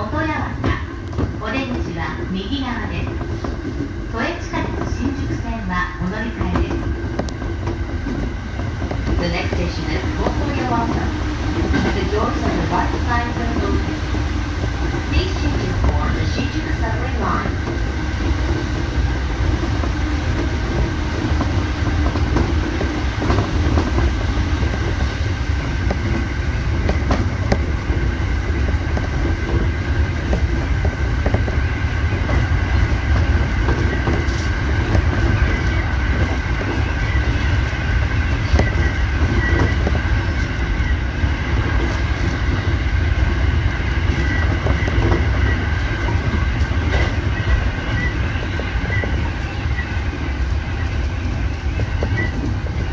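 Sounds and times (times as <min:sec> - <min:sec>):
train high whine: 0:00.0 - 0:52.9
train rumble: 0:00.0 - 0:52.9.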